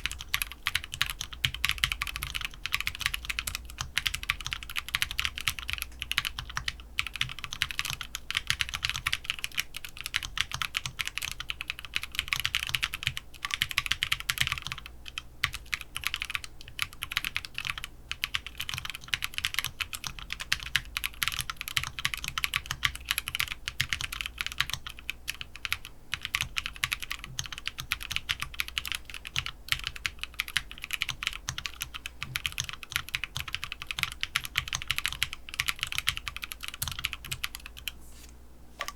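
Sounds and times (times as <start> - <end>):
mechanical keyboard typing: 0.0 - 38.0.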